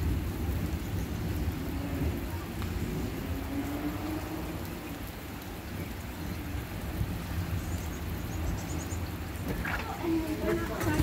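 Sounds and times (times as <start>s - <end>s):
rain on pavement and grass: 0.0s - 11.0s.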